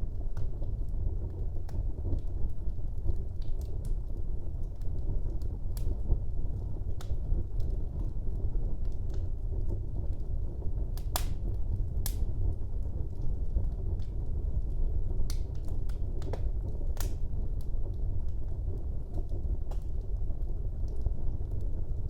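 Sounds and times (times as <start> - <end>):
fire flames rumbling: 0.0 - 22.0
wood crackling and popping: 0.0 - 22.0.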